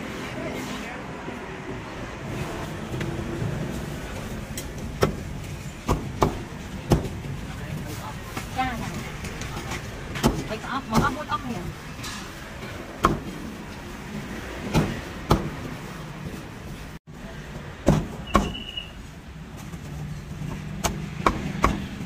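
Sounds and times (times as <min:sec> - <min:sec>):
street traffic hum: 0:00.0 - 0:22.0.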